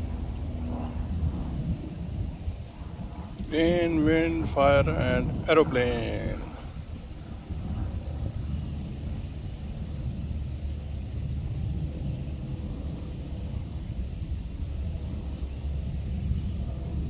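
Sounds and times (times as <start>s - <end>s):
low outdoor rumble: 0.0s - 13.8s.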